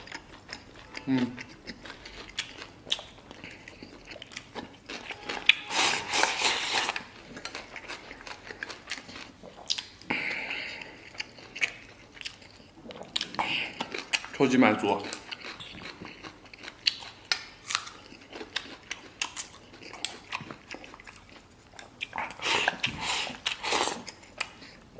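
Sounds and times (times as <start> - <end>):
chewing and smacking: 0.0 - 24.9.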